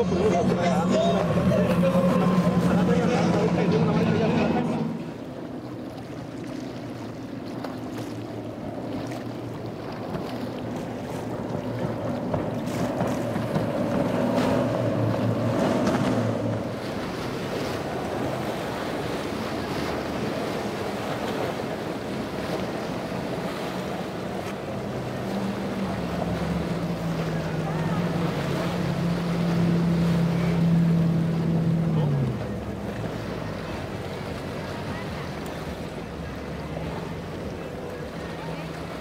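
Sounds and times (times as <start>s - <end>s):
outboard engines running: 0.0s - 39.0s.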